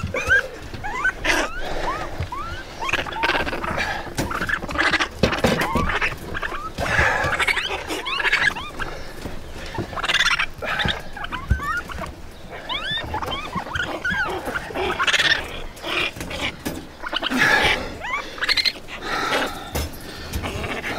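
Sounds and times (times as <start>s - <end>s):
harsh squeals: 0.0s - 9.1s, 9.7s - 18.8s
baby raccoons chirping: 0.0s - 20.9s.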